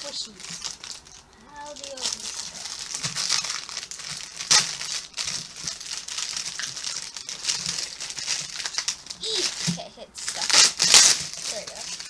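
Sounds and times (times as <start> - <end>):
plastic packaging crinkling: 0.0 - 12.0
sharp loud crackle: 1.8 - 12.0.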